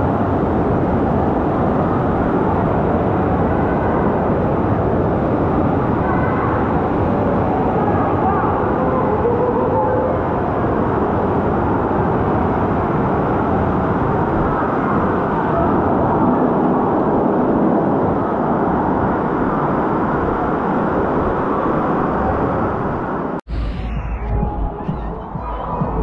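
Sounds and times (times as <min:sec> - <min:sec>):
churning water rushing: 0:00.0 - 0:23.4.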